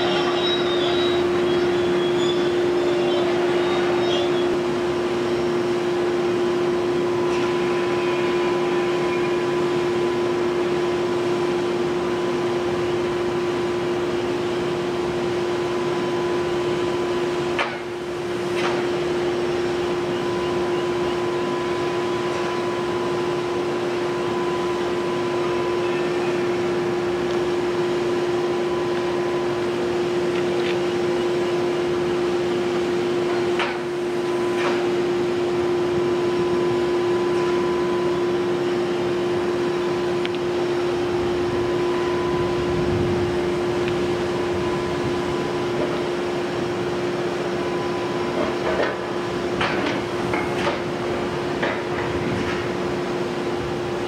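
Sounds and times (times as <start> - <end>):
excavator engine droning: 0.0 - 54.0.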